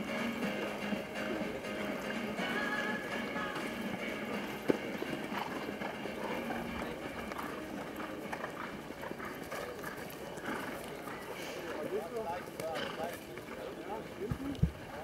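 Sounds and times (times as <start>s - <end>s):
busy background noise: 0.0s - 15.0s
horse hoofbeats on grass: 0.0s - 15.0s.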